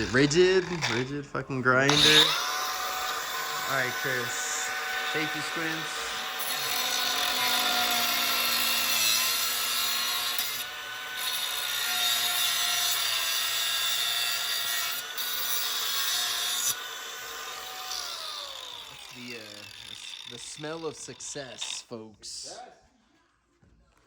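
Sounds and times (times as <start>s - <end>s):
grinder grinding metal: 0.0s - 22.0s.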